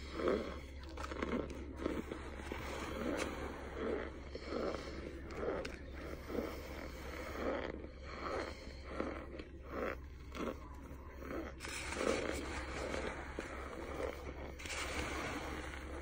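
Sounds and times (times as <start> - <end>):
chewing and crunching: 0.0 - 16.0.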